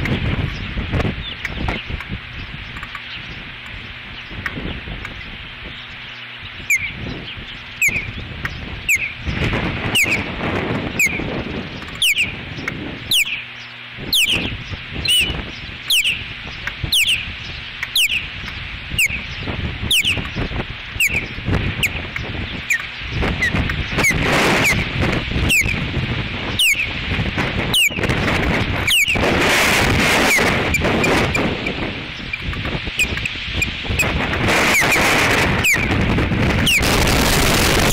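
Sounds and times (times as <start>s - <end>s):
wind buffeting microphone: 0.0s - 37.9s
osprey alert calls: 0.4s - 37.9s.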